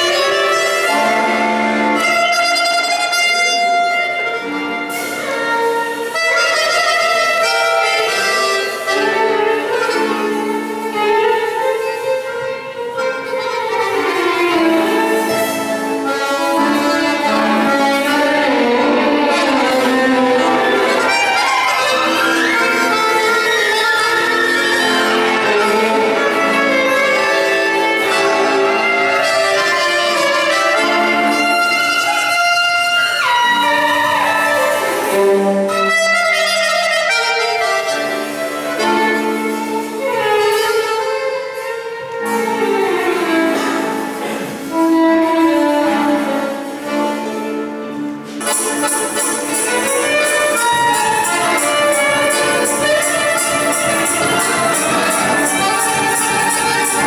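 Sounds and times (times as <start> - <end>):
accordion: 0.0 - 57.0
drum kit beat: 0.0 - 57.0
violin melody: 0.0 - 57.0.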